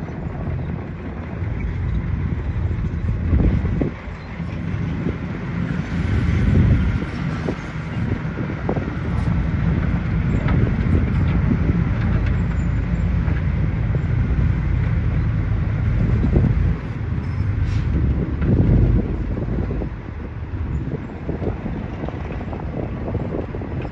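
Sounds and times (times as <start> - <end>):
diesel engine running under load: 0.0 - 23.9.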